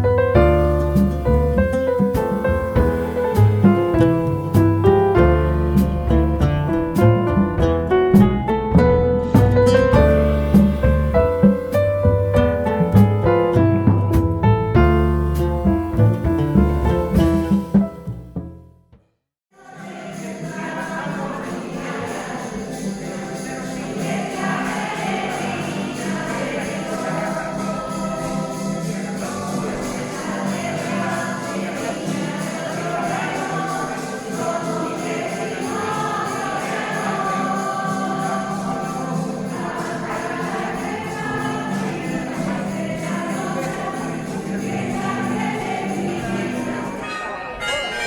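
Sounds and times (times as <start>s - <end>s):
choir singing: 0.0s - 8.2s, 9.2s - 14.0s, 19.5s - 48.0s
tambourine jingling: 0.0s - 18.1s, 19.6s - 48.0s.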